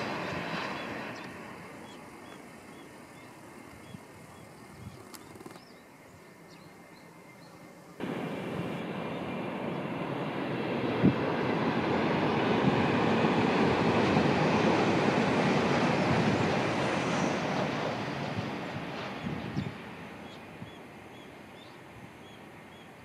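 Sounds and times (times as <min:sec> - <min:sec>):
high-speed train passing: 0:00.0 - 0:04.3, 0:08.0 - 0:23.0.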